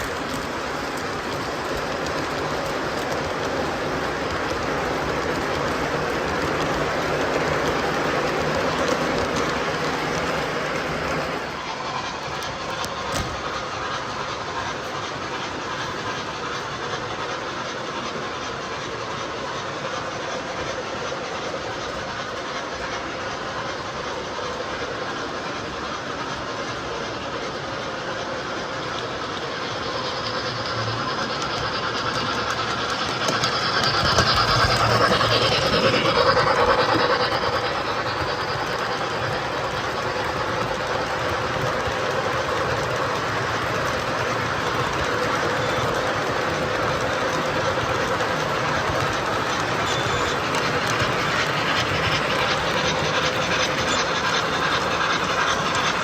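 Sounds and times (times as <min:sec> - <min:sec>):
model train rolling rattle: 0:00.0 - 0:56.0.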